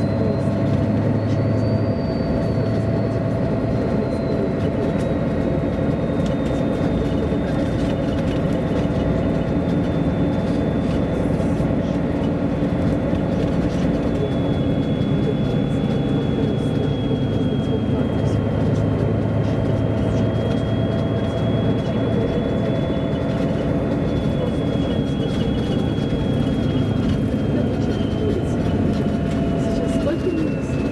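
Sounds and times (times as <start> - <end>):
bus engine and road noise: 0.0 - 30.9.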